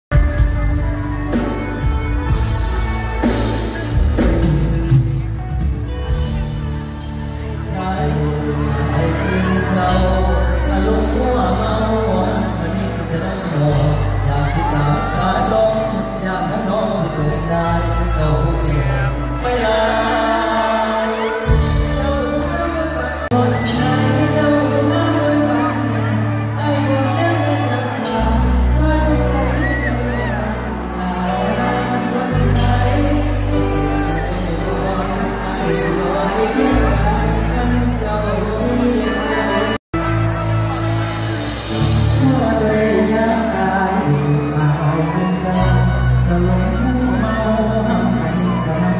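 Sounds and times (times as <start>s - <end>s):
drum kit: 0.1s - 11.2s, 12.2s - 46.9s
live band playing: 0.1s - 48.9s
steady bass: 0.1s - 48.9s
man singing into microphone: 7.3s - 48.9s.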